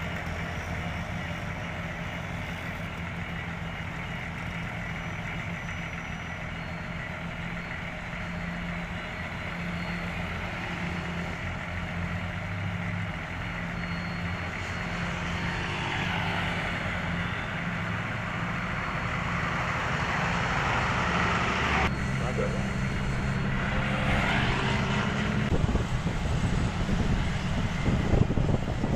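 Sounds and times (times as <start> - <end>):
diesel machinery engines running: 0.0 - 28.9.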